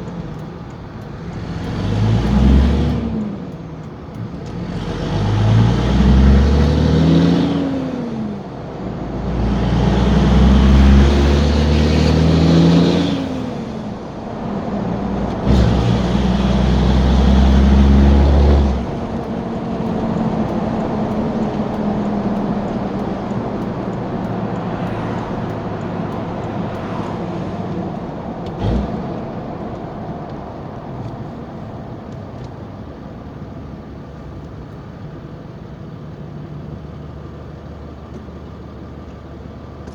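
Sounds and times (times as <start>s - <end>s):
diesel truck engine pulling hard: 0.0s - 39.9s.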